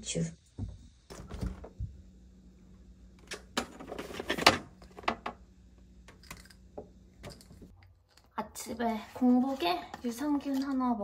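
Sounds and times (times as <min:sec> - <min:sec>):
faint steady hum: 0:00.0 - 0:10.3.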